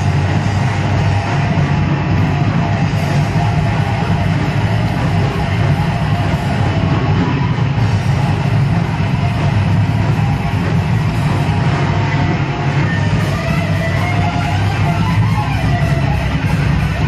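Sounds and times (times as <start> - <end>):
distorted electric guitar: 0.0 - 17.0
drums: 0.0 - 17.0
heavy bass: 0.0 - 17.0.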